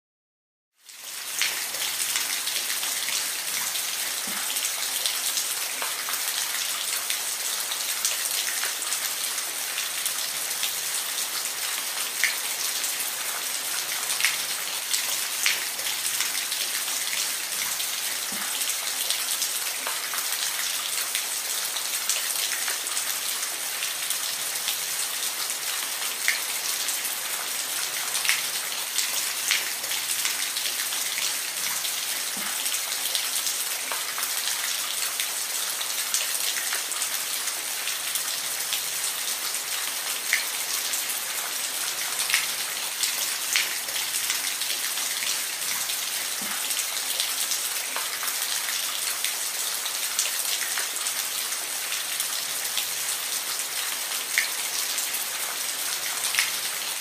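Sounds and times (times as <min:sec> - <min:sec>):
steady rain falling: 0:00.8 - 0:57.0.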